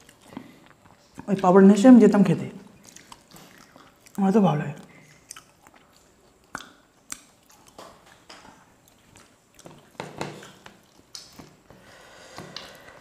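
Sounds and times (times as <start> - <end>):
chewing: 0.0 - 1.5, 2.7 - 13.0.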